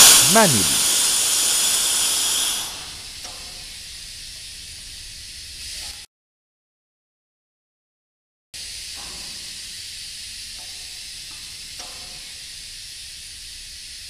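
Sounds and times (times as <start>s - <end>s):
compressed air hissing from valve: 0.0s - 6.0s, 8.6s - 14.0s.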